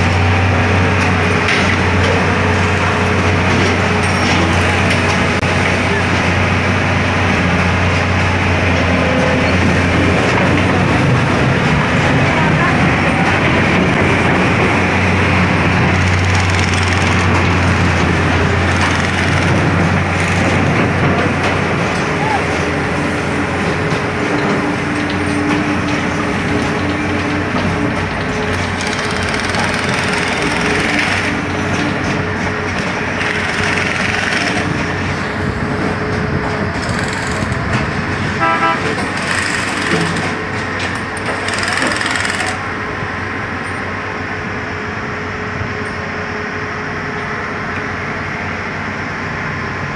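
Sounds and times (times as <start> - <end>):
machine engine humming: 0.0 - 49.9.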